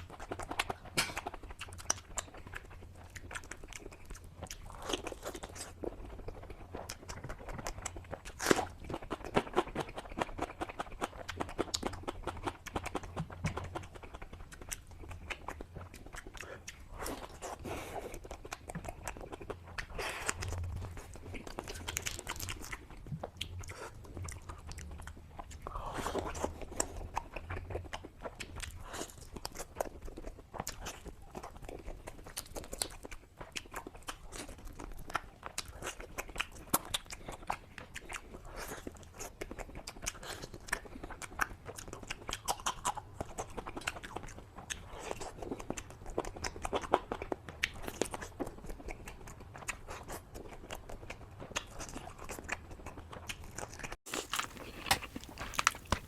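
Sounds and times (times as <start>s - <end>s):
person crunching and chewing food: 0.0s - 56.0s.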